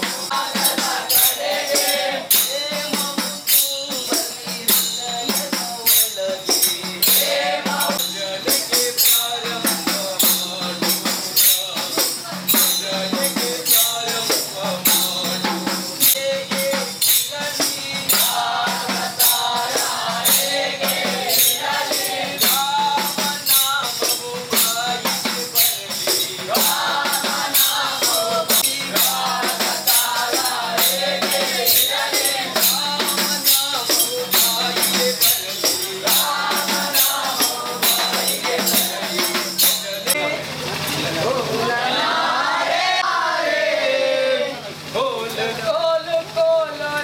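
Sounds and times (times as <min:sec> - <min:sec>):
jingling percussion beat: 0:00.0 - 0:42.2
men singing in chorus: 0:00.0 - 0:47.0.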